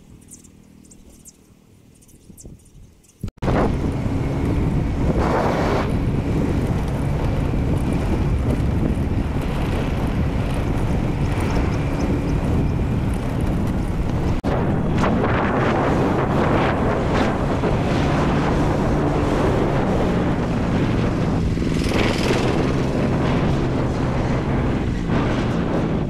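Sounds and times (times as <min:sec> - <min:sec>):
vehicle running noise: 0:00.0 - 0:26.0
wind buffeting microphone: 0:02.0 - 0:26.0.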